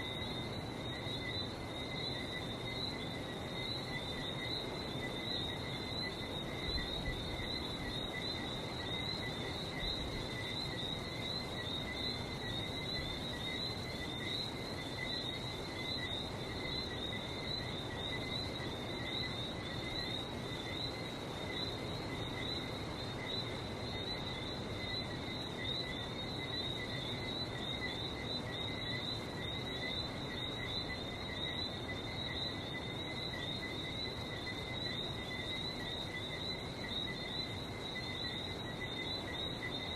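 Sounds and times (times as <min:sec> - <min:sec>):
whistling frogs chorus: 0:00.0 - 0:39.9.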